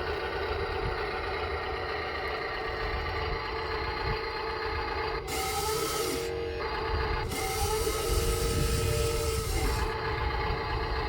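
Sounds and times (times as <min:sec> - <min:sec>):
electric motors whining and grinding: 0:00.0 - 0:11.0
engine idle hum: 0:00.0 - 0:11.0.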